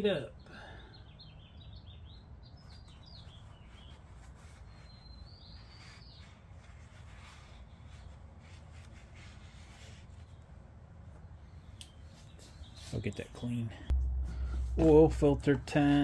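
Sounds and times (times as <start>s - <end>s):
faint bird chirping: 0.0s - 14.7s.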